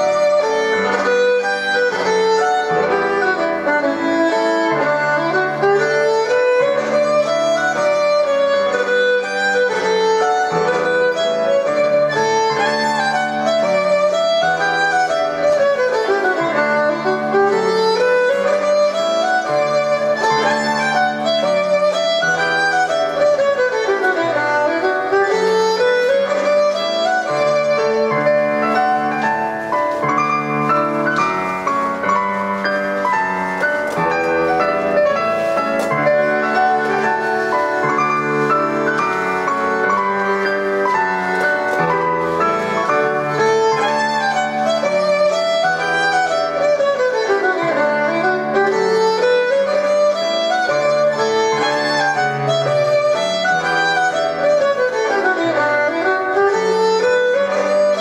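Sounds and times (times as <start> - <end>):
bowed string melody: 0.0 - 58.0
piano accompaniment: 0.0 - 58.0.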